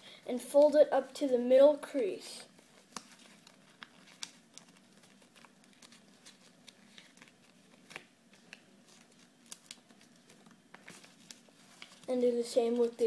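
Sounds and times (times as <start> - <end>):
paper being folded: 2.5 - 13.0.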